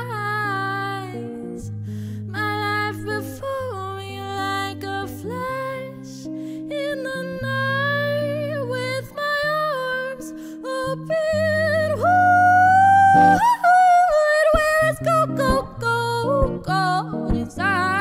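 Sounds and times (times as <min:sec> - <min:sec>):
acoustic guitar chords: 0:00.0 - 0:18.0
woman singing with vibrato: 0:00.0 - 0:18.0.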